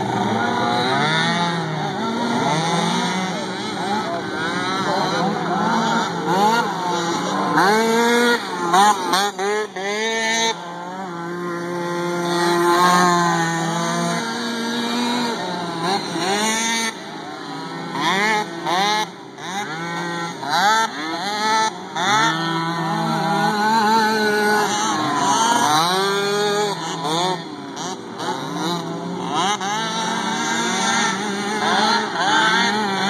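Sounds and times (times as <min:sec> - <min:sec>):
mini quad engines revving: 0:00.0 - 0:33.0.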